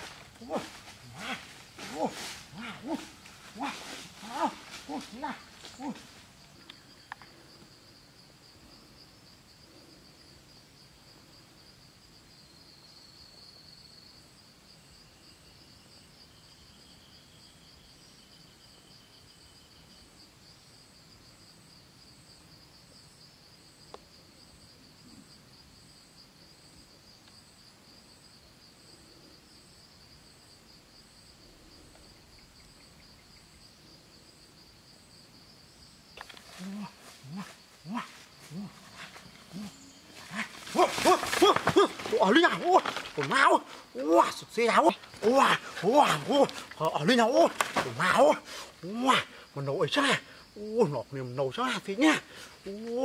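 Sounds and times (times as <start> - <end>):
high pulsing insect chirp: 0.0 - 53.0
insects trilling drone: 0.0 - 53.0.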